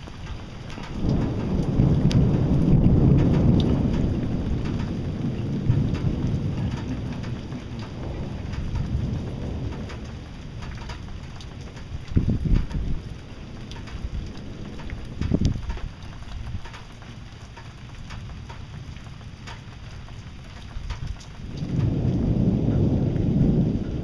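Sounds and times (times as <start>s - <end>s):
rolling thunder: 0.0s - 16.7s, 20.8s - 24.0s
rain falling: 0.0s - 24.0s.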